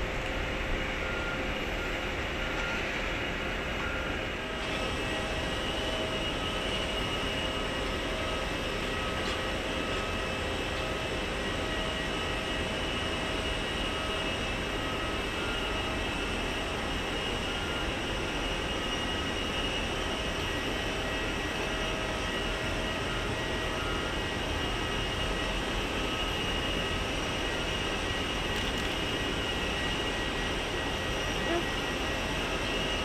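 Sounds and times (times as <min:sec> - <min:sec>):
jet turbine whine: 0:00.0 - 0:33.0.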